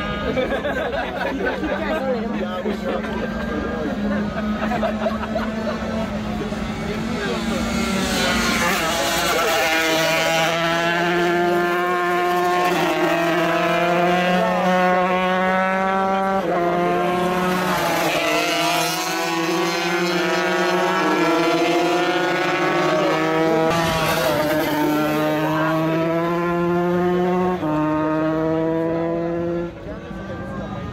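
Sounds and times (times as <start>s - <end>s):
motocross bike engines racing: 0.0s - 30.9s.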